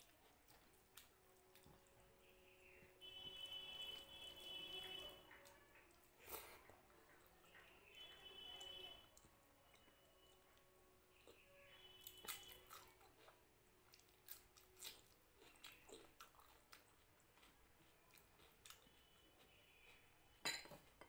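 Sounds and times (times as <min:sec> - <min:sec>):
chewing crisp cucumber: 0:00.0 - 0:03.0, 0:03.9 - 0:21.0.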